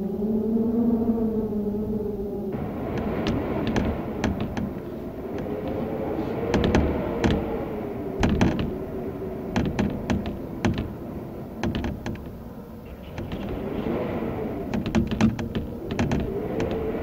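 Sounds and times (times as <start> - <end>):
wind howling: 0.0 - 17.0
shutters rattling and knocking: 2.6 - 17.0.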